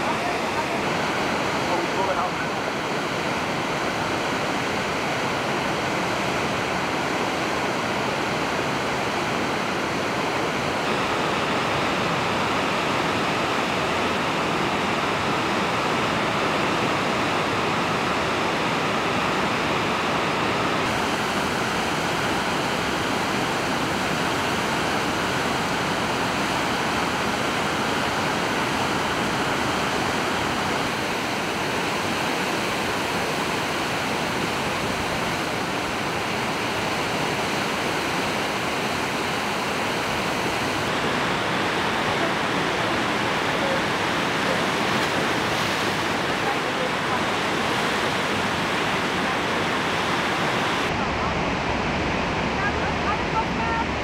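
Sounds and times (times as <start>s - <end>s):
rapids rushing over rocks: 0.0s - 54.0s.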